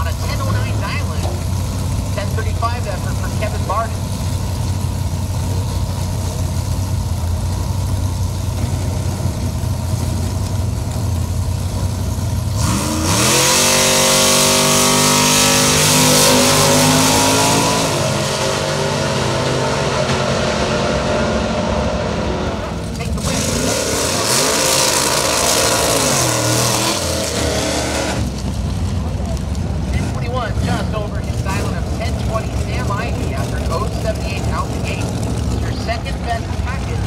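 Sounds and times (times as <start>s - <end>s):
drag racing engines: 0.0s - 37.0s.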